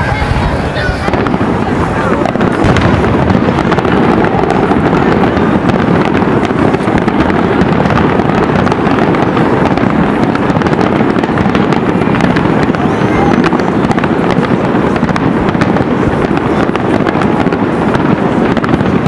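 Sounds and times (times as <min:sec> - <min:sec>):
fireworks crackling: 0:00.0 - 0:19.0
fireworks shell bursts rumbling: 0:00.0 - 0:19.0.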